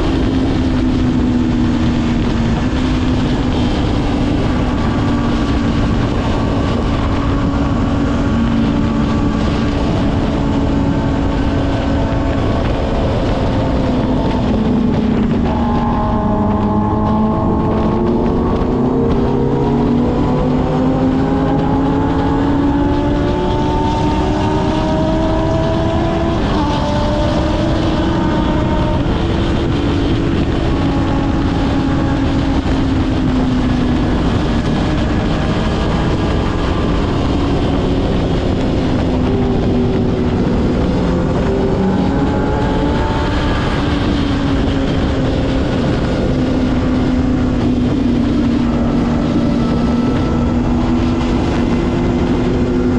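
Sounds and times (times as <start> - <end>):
motorcycle engine revving: 0.0 - 52.9
wind noise: 0.0 - 52.9.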